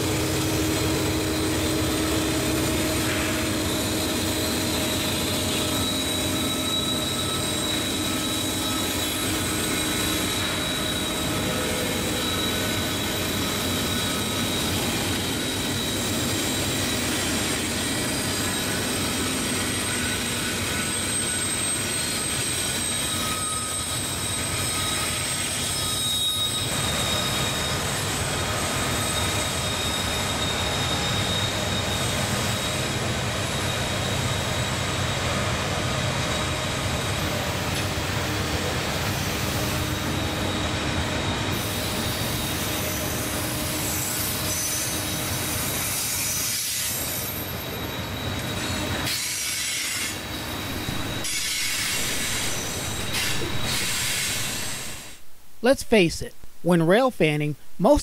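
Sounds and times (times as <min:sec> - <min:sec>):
steel wheels squealing: 0:00.0 - 0:55.2
train cars rolling: 0:00.0 - 0:55.2.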